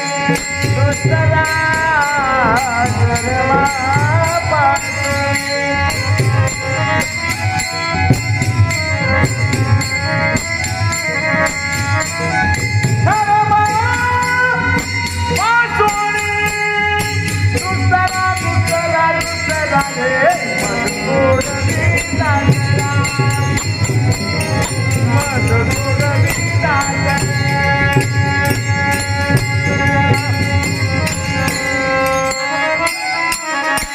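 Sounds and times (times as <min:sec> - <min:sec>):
man singing: 0:00.0 - 0:07.4, 0:09.0 - 0:33.9
hand cymbals jingling: 0:00.0 - 0:33.9
sustained instrumental tones: 0:00.0 - 0:33.9.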